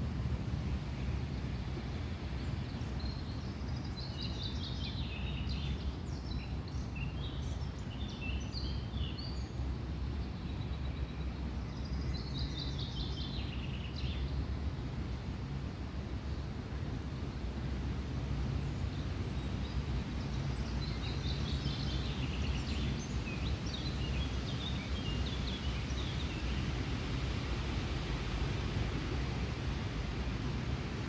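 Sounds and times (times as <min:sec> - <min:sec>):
low outdoor rumble: 0:00.0 - 0:08.0, 0:08.8 - 0:31.0.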